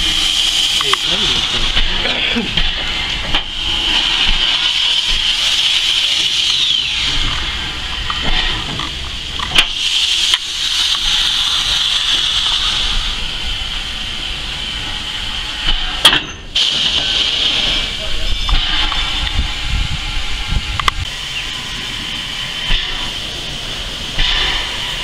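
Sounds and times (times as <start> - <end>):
steam train hiss and rumble: 0.0 - 25.0.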